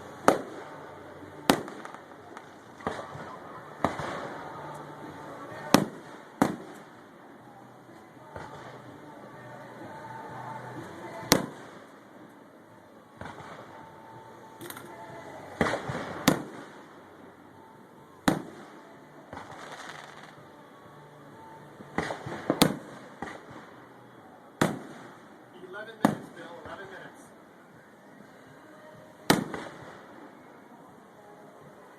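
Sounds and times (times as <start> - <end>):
firework crackling: 0.0 - 12.5, 13.2 - 13.9, 14.6 - 20.6, 21.9 - 27.3, 29.2 - 30.6.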